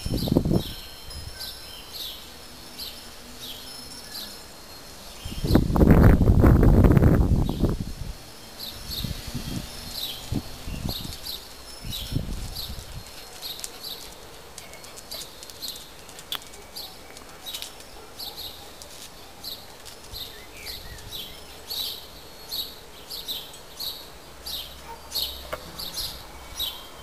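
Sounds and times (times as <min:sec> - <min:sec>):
faint outdoor background noise: 0:00.0 - 0:27.0.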